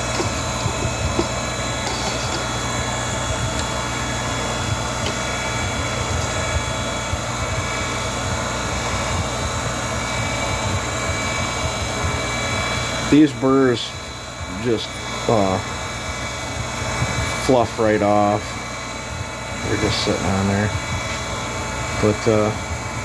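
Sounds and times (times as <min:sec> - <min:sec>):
grinder electric motor humming: 0:00.0 - 0:23.0.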